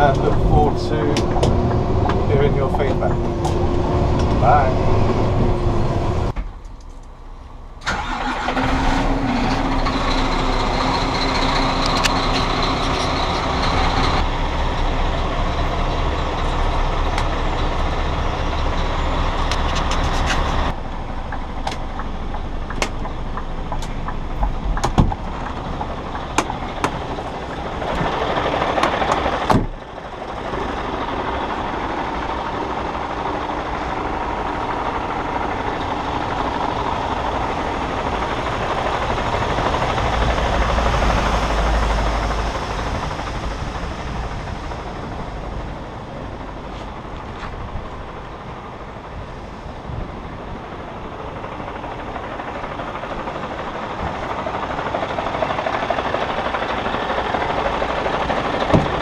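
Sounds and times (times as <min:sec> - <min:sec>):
diesel lorry engine running: 0:00.0 - 0:59.0.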